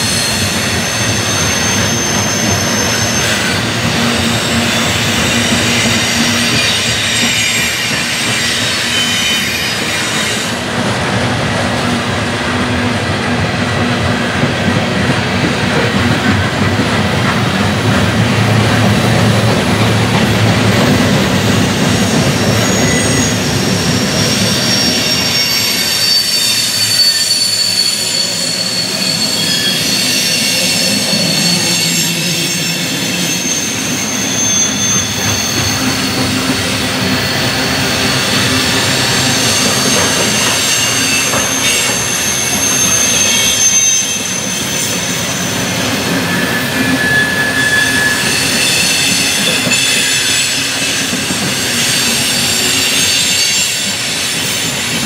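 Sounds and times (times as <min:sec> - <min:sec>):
high thin wheel squeals: 0:00.0 - 0:10.7, 0:20.2 - 0:55.0
steel wheels rumbling on rail: 0:00.0 - 0:55.0.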